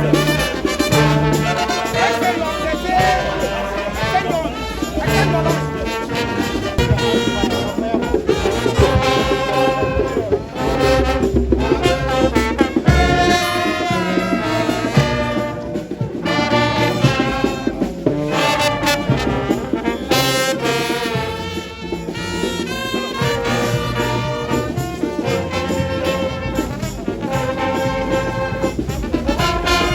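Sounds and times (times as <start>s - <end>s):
brass instruments playing melody: 0.0s - 29.9s.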